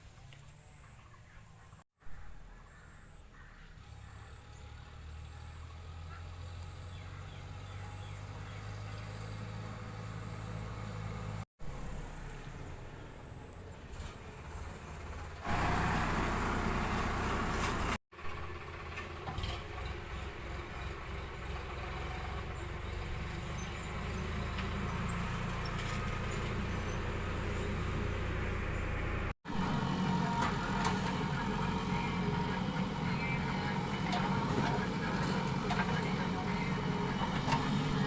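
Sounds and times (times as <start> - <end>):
heavy machinery engine running: 3.8 - 38.0.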